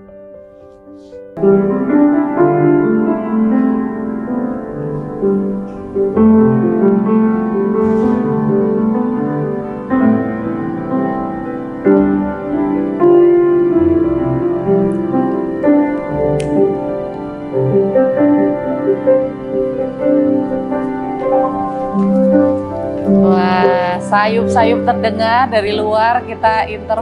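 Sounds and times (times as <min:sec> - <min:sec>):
grand piano playing: 0:00.0 - 0:27.0.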